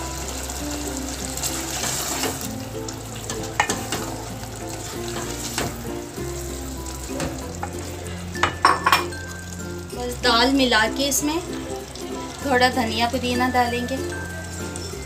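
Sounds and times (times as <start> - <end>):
meat sizzling in oil: 0.0 - 15.0
soft background music: 0.0 - 15.0.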